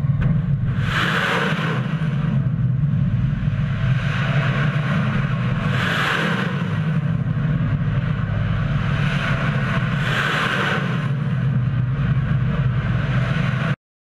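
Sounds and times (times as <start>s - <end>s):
rocket motor roaring: 0.0s - 13.8s.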